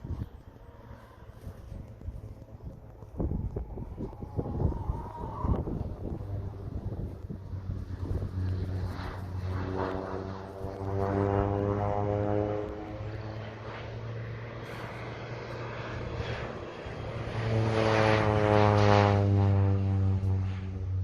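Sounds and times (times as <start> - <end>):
airplane flying low past: 0.0 - 21.0.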